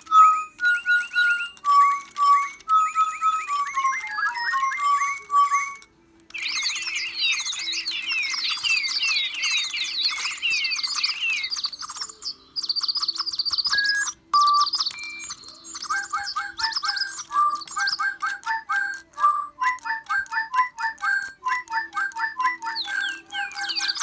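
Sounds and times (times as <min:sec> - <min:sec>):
bird chirping and warbling: 0:00.0 - 0:24.0.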